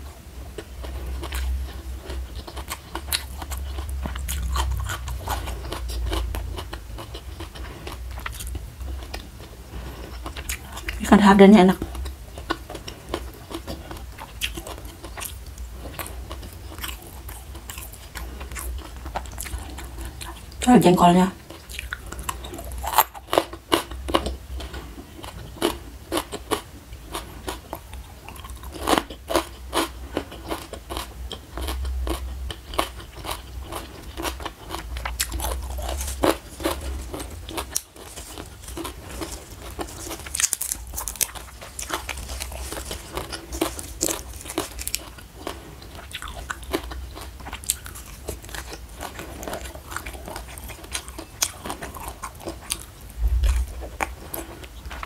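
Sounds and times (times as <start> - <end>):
person chewing crunchy vegetables: 0.0 - 55.0.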